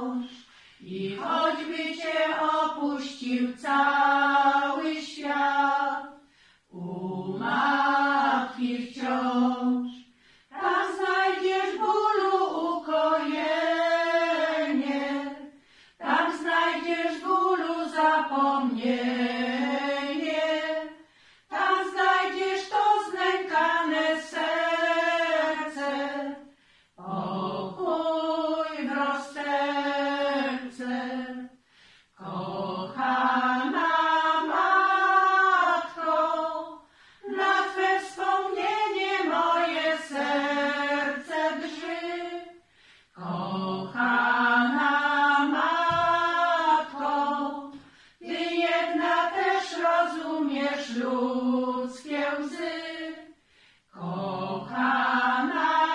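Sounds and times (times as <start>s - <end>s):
women singing a cappella hymn: 0.0s - 55.9s.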